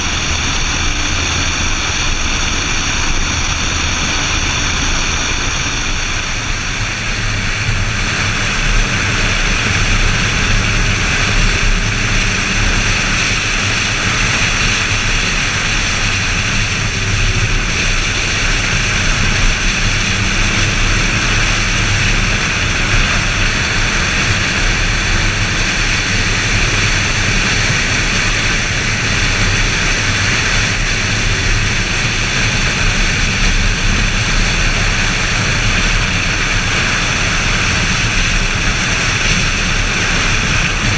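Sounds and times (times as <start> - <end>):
car engine running hard: 0.0 - 40.9
wind and road noise: 0.0 - 40.9.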